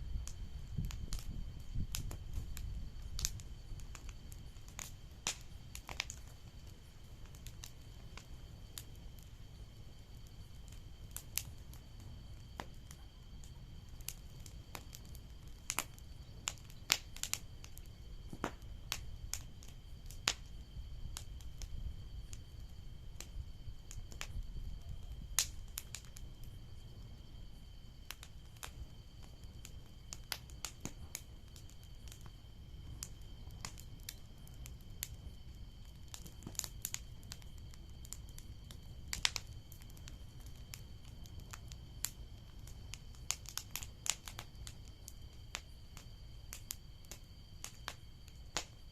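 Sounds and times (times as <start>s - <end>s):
bonfire crackling and popping: 0.0s - 48.9s
fire low rumble: 0.0s - 48.9s.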